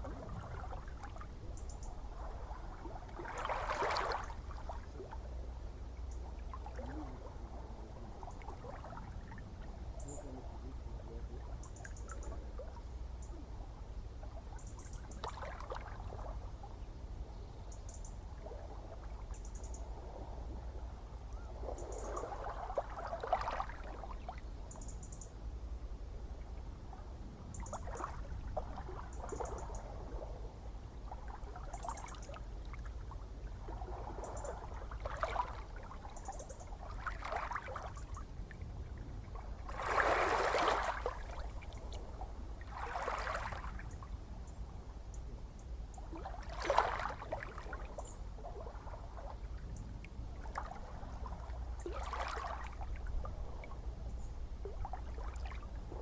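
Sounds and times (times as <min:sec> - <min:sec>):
ocean waves lapping and splashing: 0:00.0 - 0:05.5, 0:06.4 - 0:12.7, 0:18.4 - 0:24.4, 0:26.8 - 0:44.9, 0:46.0 - 0:56.0.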